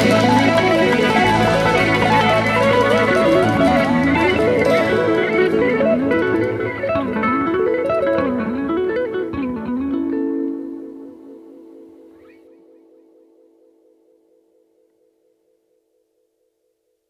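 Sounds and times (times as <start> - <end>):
plucked guitar melody: 0.0 - 14.1.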